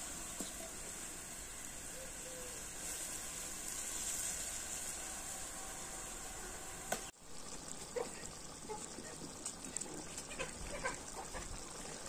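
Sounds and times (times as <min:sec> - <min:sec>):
stew hissing in a pot: 0:00.0 - 0:12.0.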